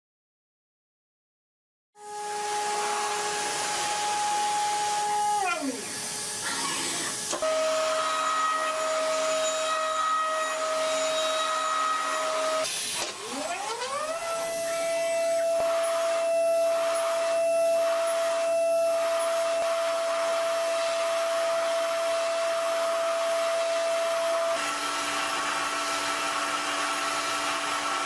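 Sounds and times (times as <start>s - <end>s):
hiss of cutting noise: 2.0s - 28.0s
milling machine spindle whining: 2.0s - 28.0s.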